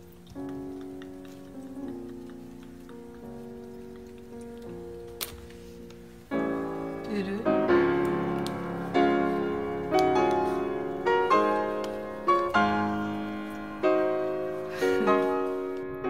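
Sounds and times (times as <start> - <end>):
piano chords and notes: 0.0 - 16.0.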